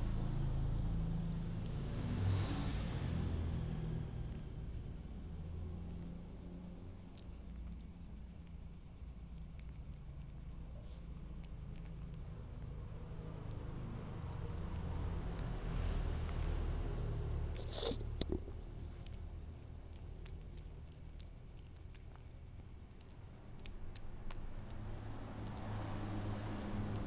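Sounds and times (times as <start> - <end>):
crickets trilling: 0.0 - 27.0
faint ticks: 4.0 - 27.0.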